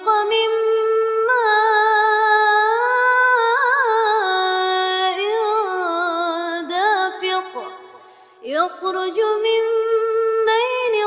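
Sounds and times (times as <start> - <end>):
woman reciting melodically: 0.0 - 11.0.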